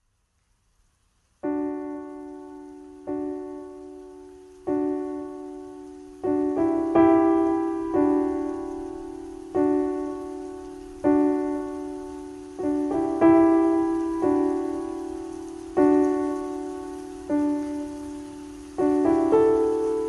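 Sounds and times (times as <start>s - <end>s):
slow gentle piano music: 1.3s - 20.0s.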